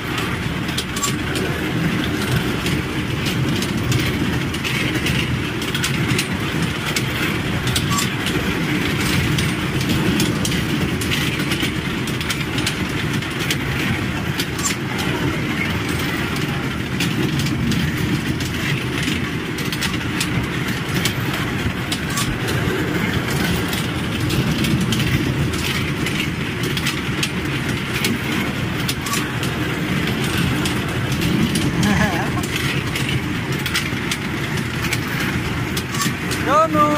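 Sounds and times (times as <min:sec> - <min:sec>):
scattered clicks: 0:00.0 - 0:36.9
wheels rumbling on rails: 0:00.0 - 0:36.9.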